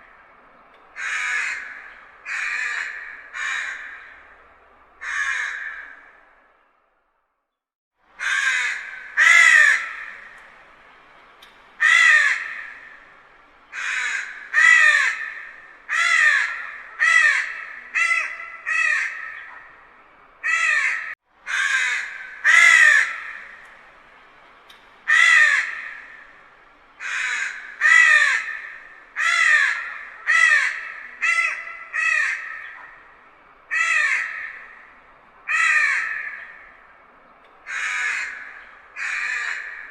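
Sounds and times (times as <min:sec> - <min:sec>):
crows cawing: 0:00.0 - 0:06.4, 0:08.2 - 0:10.7, 0:11.8 - 0:24.0, 0:25.0 - 0:37.0, 0:37.6 - 0:39.9.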